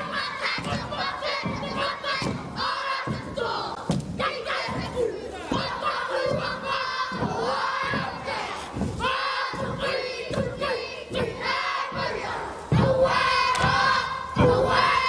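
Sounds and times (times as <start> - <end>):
foot stamp: 0.0 - 12.1
boys shouting rhythmic phrases: 0.0 - 15.0
children chanting in unison: 0.0 - 15.0.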